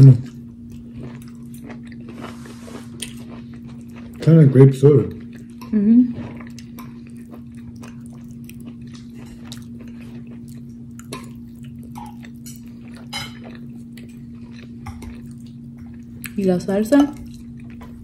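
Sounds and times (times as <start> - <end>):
person chewing food: 0.0 - 16.4, 17.2 - 18.0.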